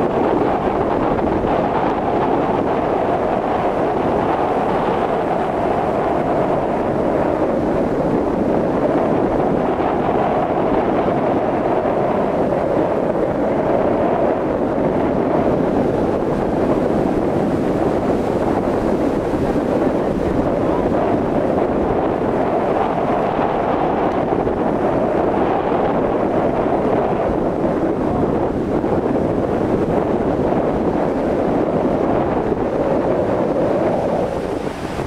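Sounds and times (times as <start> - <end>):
wind rushing on microphone: 0.0 - 35.0.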